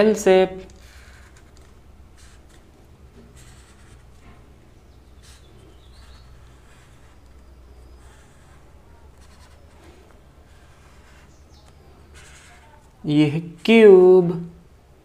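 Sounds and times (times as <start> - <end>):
steady low hum: 0.0 - 13.7
marker scratching on paper: 0.5 - 13.7.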